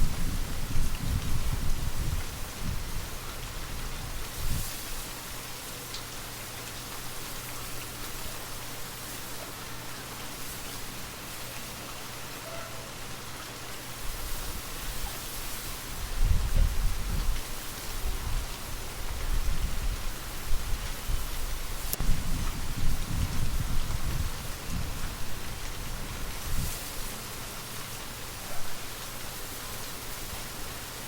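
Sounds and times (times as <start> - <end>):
steady rain pattering: 0.0 - 31.0.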